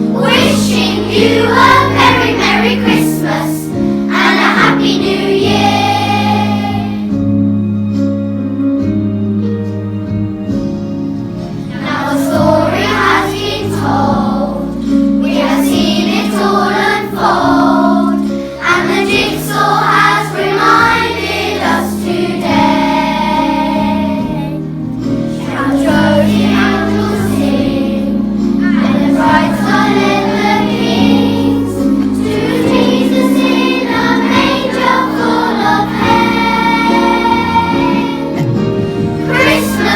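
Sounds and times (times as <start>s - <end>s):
children's choir singing: 0.0s - 7.3s, 11.5s - 39.9s
instrumental accompaniment: 0.0s - 39.9s.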